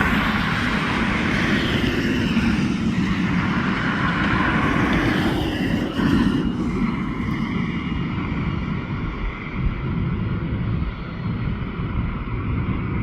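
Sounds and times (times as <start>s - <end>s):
jet engines during takeoff: 0.0s - 13.0s.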